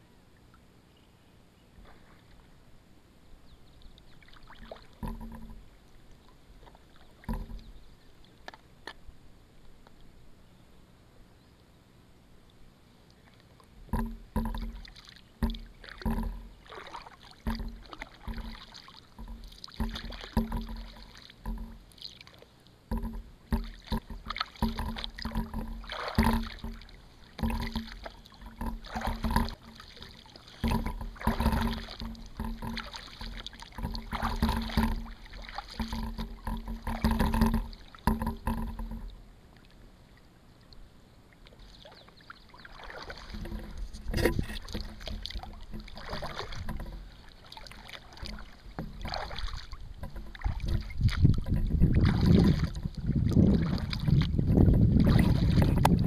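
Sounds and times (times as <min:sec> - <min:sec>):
paddle splashes: 0:01.8 - 0:10.2, 0:13.0 - 0:56.0.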